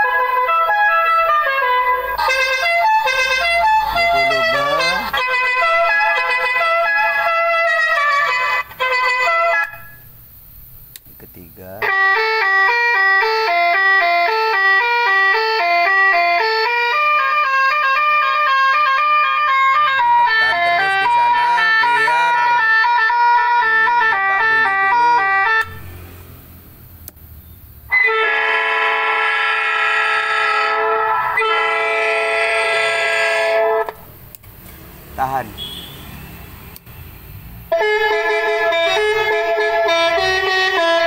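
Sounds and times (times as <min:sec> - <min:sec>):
electronic horn melody: 0:00.0 - 0:10.1, 0:11.8 - 0:25.9, 0:27.9 - 0:34.0, 0:35.4 - 0:36.6, 0:37.7 - 0:41.0.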